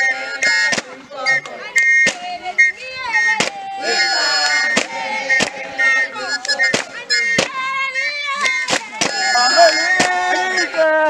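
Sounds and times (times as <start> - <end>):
sharp percussive beats: 0.0 - 2.3, 3.2 - 7.7, 8.4 - 10.5
group of voices singing: 0.0 - 11.0.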